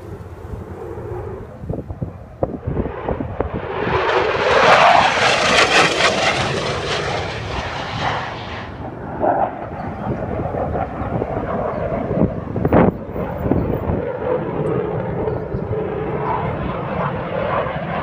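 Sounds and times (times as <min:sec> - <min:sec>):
fighter jet flying past: 0:00.0 - 0:18.0
wind buffeting microphone: 0:00.0 - 0:18.0.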